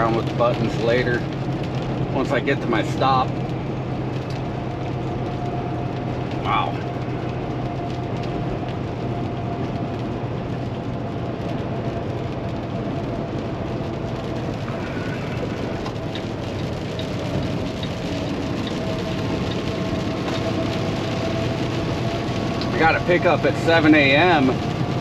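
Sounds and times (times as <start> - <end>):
diesel truck engine drone: 0.0 - 25.0
road and wind noise: 0.0 - 25.0.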